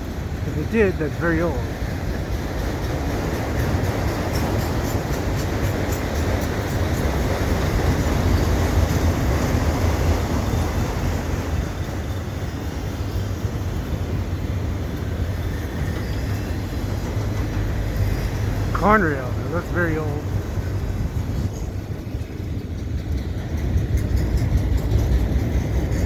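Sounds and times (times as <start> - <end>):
rhythmic rail clicks: 0.0 - 26.0
train wheels rumbling on track: 0.0 - 26.0.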